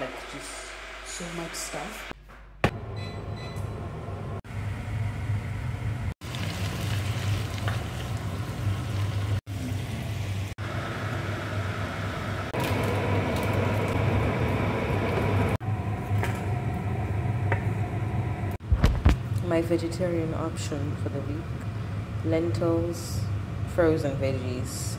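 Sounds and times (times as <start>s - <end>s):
kitchen cooking sounds: 0.0s - 24.9s.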